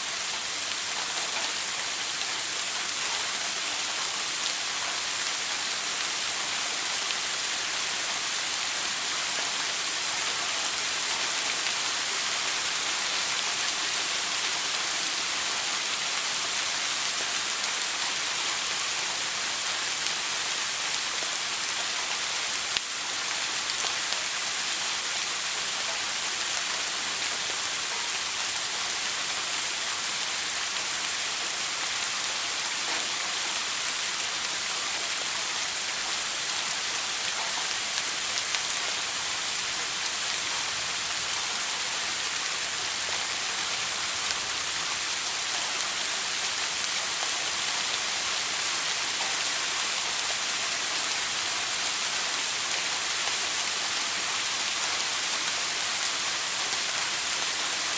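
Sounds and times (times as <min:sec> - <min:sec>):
shower water spraying: 0:00.0 - 0:57.9.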